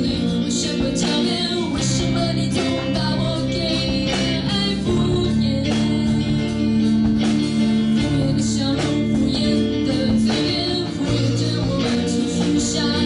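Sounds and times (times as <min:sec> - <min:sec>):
live pop-rock band playing: 0:00.0 - 0:13.0
woman singing: 0:00.0 - 0:13.0.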